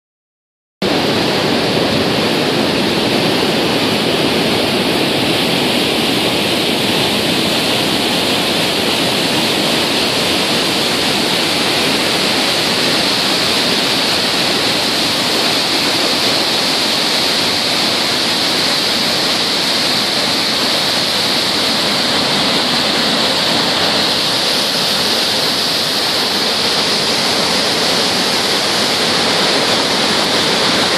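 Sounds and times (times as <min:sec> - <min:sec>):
water rushing into whitewater: 0:00.8 - 0:30.9.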